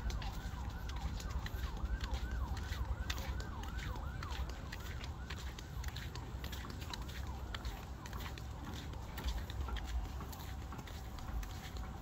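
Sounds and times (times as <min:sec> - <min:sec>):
footsteps on dirt path: 0:00.0 - 0:12.0.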